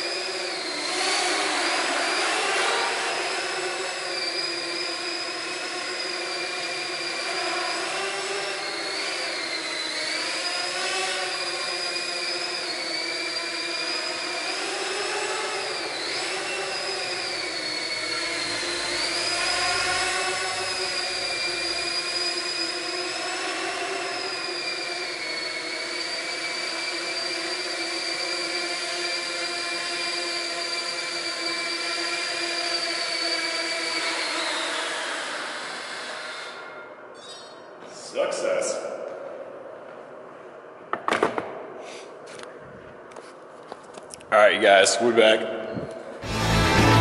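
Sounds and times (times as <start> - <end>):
drone propellers whining: 0.0 - 39.8, 46.2 - 47.0.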